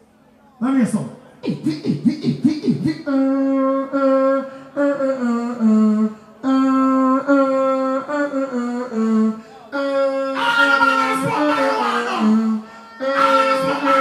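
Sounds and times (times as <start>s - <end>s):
person humming over pa: 1.4s - 14.0s.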